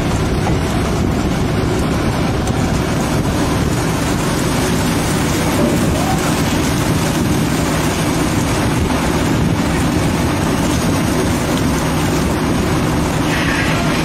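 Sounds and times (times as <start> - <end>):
engine and machinery drone: 0.0 - 14.0
even rushing noise: 0.0 - 14.0.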